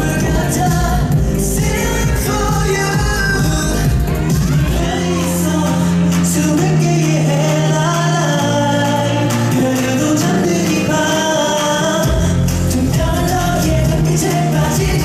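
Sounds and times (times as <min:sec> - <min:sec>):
male group vocals: 0:00.0 - 0:15.0
pop music over loudspeakers: 0:00.0 - 0:15.0.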